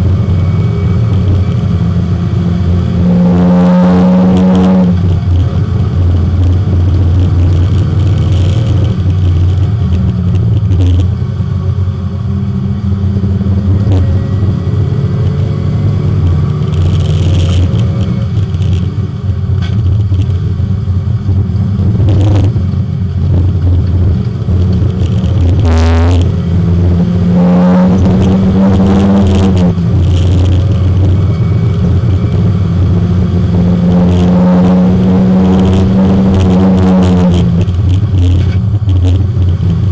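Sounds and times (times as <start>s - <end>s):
race car engine from inside: 0.0s - 39.9s.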